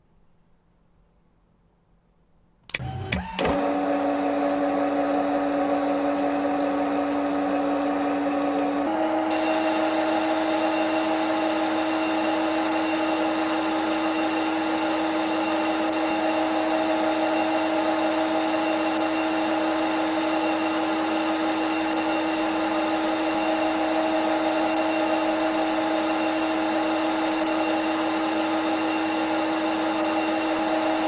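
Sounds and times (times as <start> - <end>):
machine spindle whine: 2.7 - 3.8, 7.0 - 31.0.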